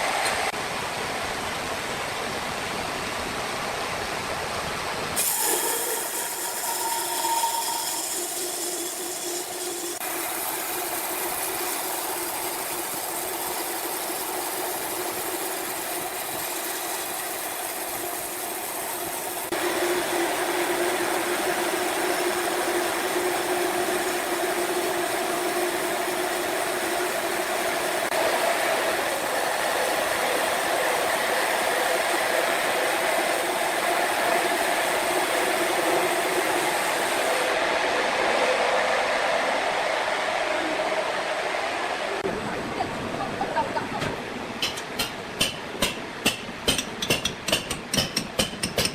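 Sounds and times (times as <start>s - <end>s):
sawmill machinery running: 3.4s - 48.9s.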